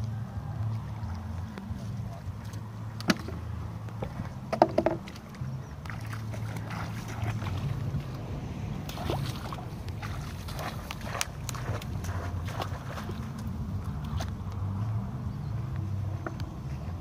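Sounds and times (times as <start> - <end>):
muddy water sloshing and splashing: 0.0 - 17.0
steady low rumble: 0.0 - 17.0.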